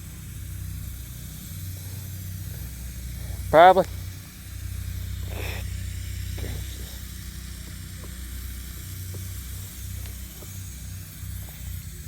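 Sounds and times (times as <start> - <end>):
faint ticks: 0.0 - 11.8
engine running: 0.0 - 12.0
outdoor hiss: 0.0 - 12.0.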